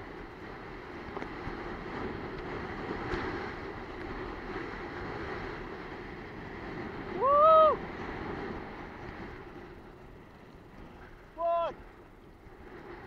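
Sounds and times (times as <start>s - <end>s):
wind over microphone: 0.0s - 13.0s.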